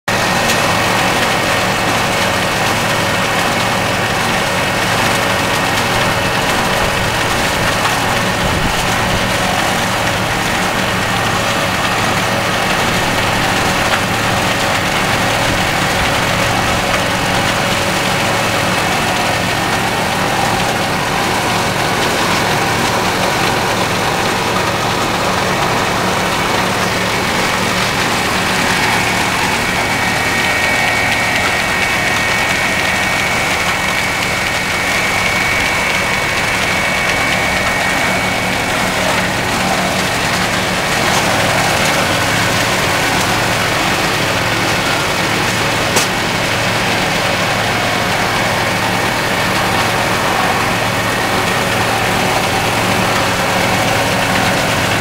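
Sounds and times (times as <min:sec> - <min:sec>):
diesel engine: 0:00.0 - 0:55.0
milling machine running: 0:00.1 - 0:55.0
steady high tones: 0:05.6 - 0:55.0.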